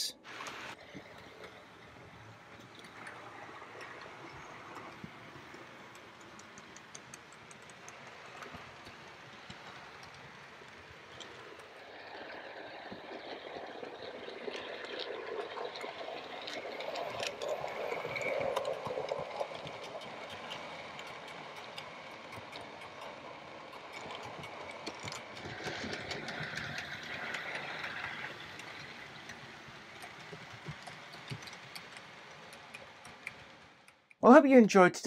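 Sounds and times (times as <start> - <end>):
light track clicks: 0.0 - 34.2
model train rumbling on track: 0.0 - 34.4.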